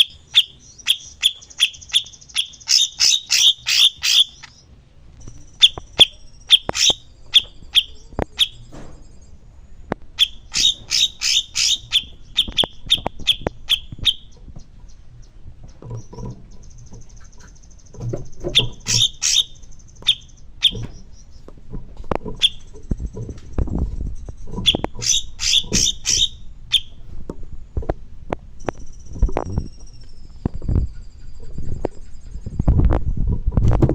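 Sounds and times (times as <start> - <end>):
songbird chirping: 0.0 - 27.1, 28.5 - 32.8.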